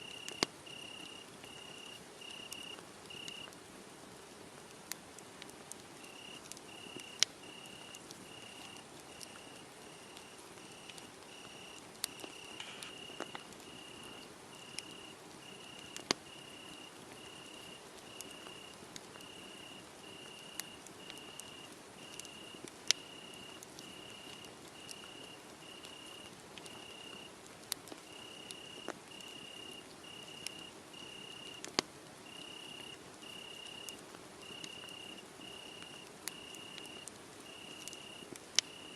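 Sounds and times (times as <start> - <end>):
cricket chirping: 0.0 - 3.5, 6.0 - 27.3, 28.1 - 31.6, 32.2 - 38.9
wood fire crackling: 0.0 - 38.9.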